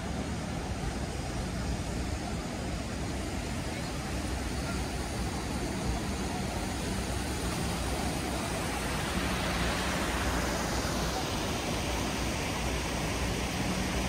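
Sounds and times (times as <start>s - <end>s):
low traffic rumble: 0.0s - 14.0s
water rushing over weir: 0.0s - 14.0s.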